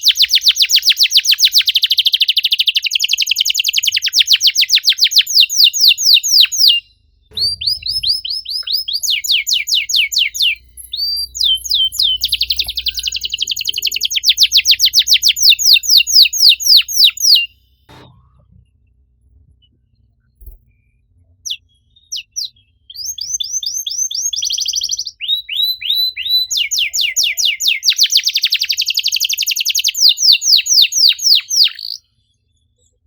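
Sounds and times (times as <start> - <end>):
canary singing trills: 0.0 - 17.9, 20.4 - 32.2.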